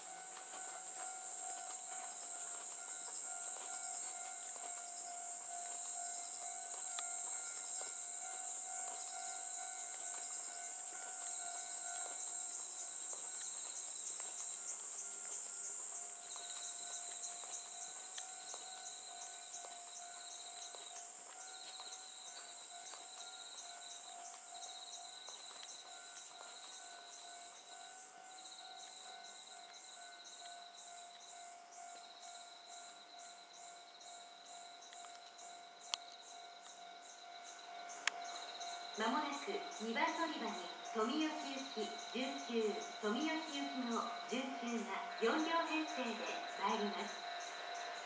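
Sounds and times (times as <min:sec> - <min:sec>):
faint steady tone: 0:00.0 - 0:48.0
high-pitched night insects chorus: 0:00.0 - 0:48.0
lower insect trill: 0:00.0 - 0:48.0.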